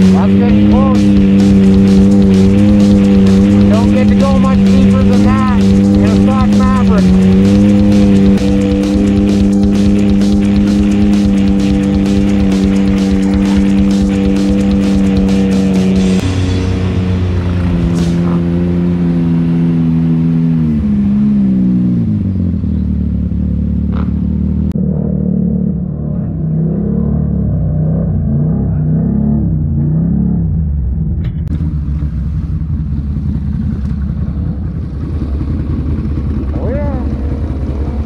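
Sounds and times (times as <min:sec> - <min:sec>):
off-road engines revving: 0:00.0 - 0:38.0.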